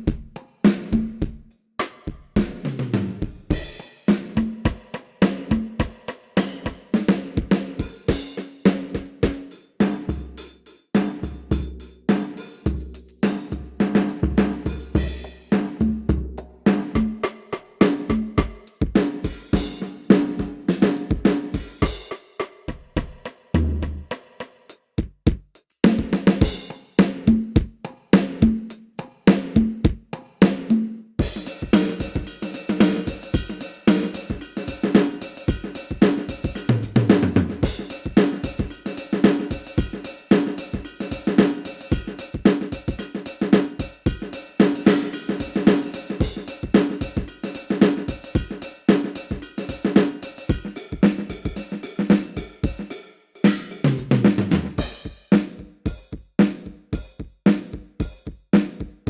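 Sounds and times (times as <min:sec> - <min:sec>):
sampled drum and percussion hits: 0:00.0 - 0:59.0.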